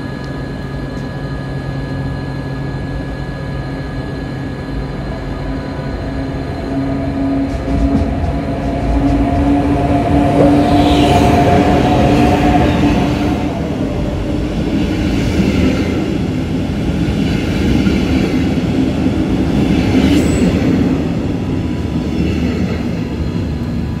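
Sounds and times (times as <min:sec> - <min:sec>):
humming tone: 0:00.0 - 0:21.9
train wheels rumbling on rails: 0:04.0 - 0:24.0.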